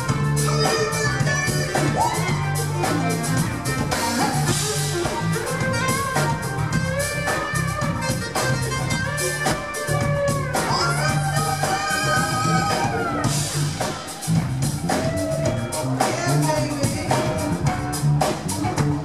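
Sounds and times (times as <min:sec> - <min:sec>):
drum kit and bass beat: 0:00.0 - 0:19.0
electric guitar: 0:00.0 - 0:19.0.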